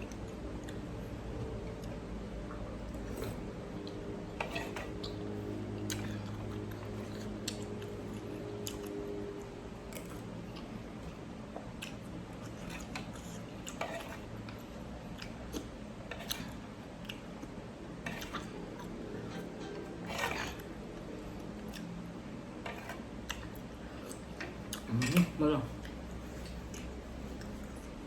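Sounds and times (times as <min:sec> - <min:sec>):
low steady hum: 0:00.0 - 0:28.0
chewing: 0:02.9 - 0:28.0.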